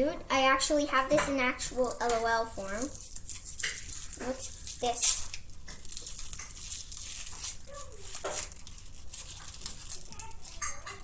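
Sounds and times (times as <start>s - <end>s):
plastic packaging crinkling: 1.6s - 11.0s.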